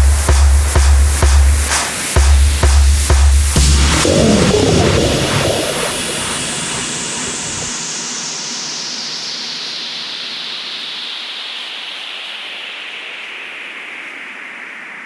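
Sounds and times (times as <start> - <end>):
synthesized white-noise sweep: 0.0 - 15.0.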